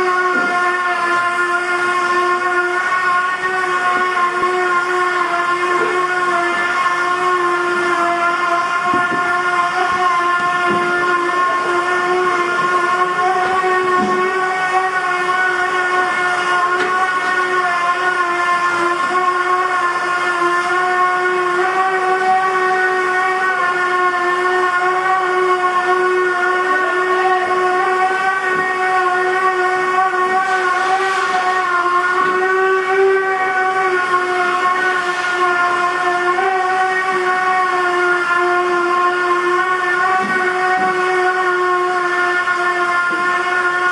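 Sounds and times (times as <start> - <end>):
construction machinery whining: 0.0 - 43.9.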